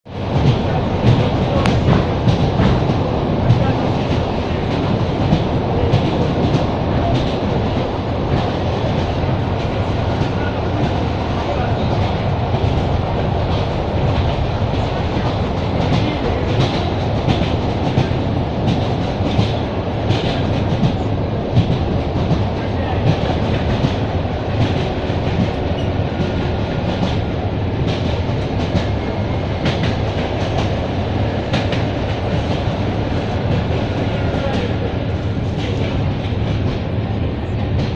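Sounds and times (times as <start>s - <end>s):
train running rumble: 0.1s - 37.9s
train wheels clacking over rail joints: 0.2s - 36.9s.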